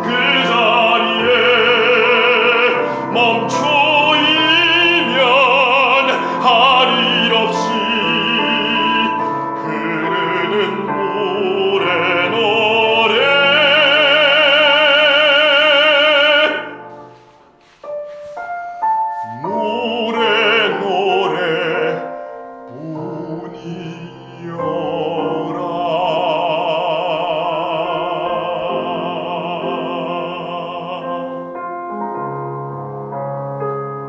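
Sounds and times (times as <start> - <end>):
man singing operatically: 0.0 - 17.0, 19.2 - 31.8
piano accompaniment: 0.0 - 34.0.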